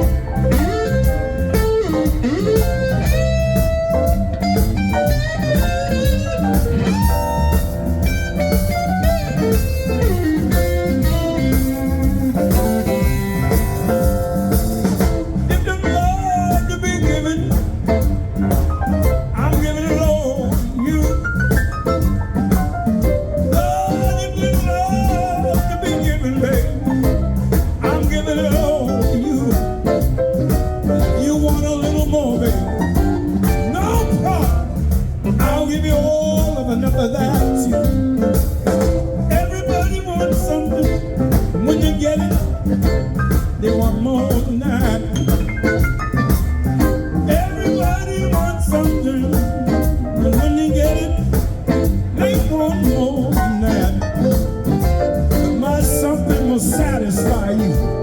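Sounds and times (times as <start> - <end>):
bending lead guitar line: 0.0 - 58.0
blues band playing: 0.0 - 58.0.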